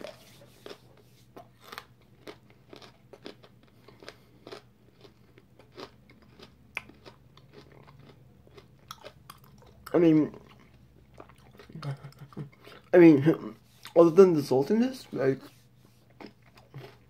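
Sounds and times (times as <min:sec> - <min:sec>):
chewing and crunching candy bar: 0:00.0 - 0:14.0, 0:16.0 - 0:17.0.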